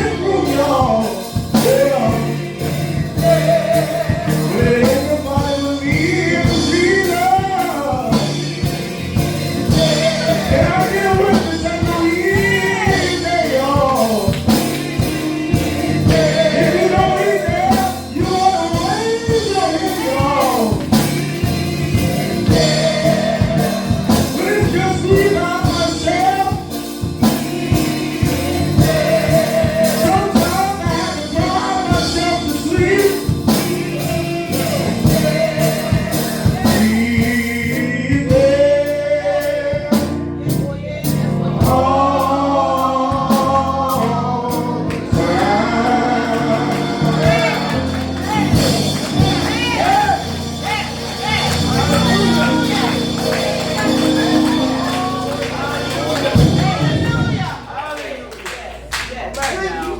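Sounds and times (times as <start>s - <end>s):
instrumental accompaniment with beat: 0.0s - 57.7s
gospel singing: 0.0s - 59.9s.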